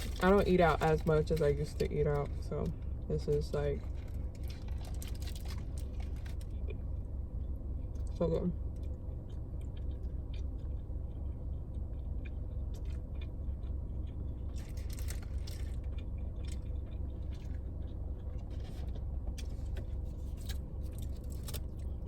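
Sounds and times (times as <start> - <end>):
close chewing: 0.0 - 22.0
low car cabin rumble: 0.0 - 22.0.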